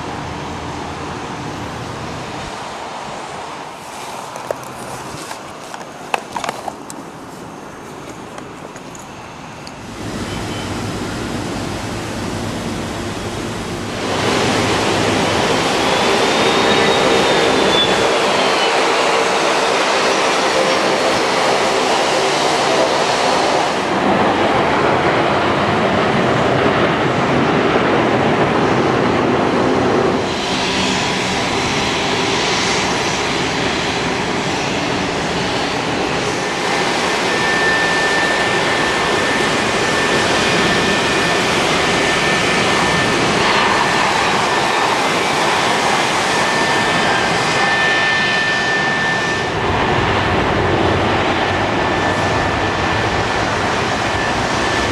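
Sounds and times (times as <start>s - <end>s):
rushing hiss of wet runway: 0.0s - 8.0s, 9.8s - 25.4s, 26.5s - 54.9s
airliner engine noise: 0.0s - 54.9s
high engine whine: 0.0s - 54.9s.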